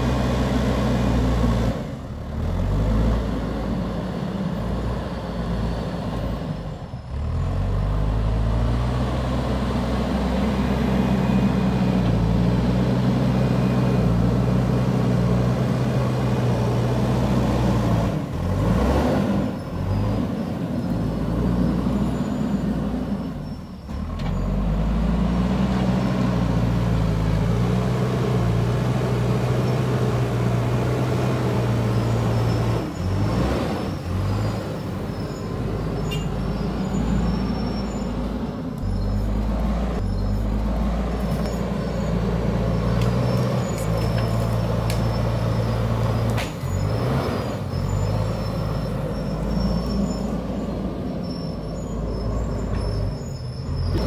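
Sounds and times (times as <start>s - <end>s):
diesel engine working under load: 0.0s - 54.0s.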